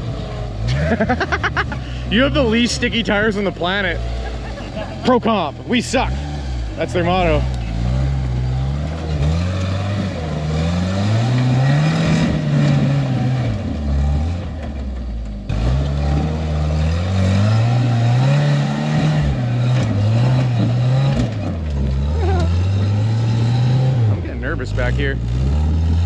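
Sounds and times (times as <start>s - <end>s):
engine revving in surges: 0.0s - 26.0s.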